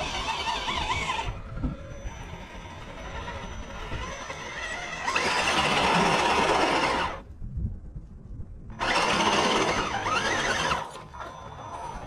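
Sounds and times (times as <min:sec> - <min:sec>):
electric motor whining: 0:00.0 - 0:07.2, 0:08.7 - 0:12.0.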